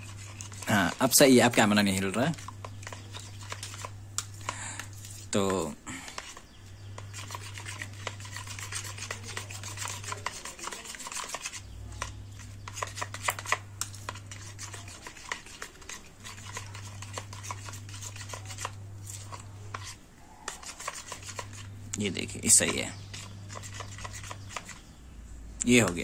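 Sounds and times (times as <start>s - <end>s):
spoon clicking and scraping bowl: 0.0s - 24.9s.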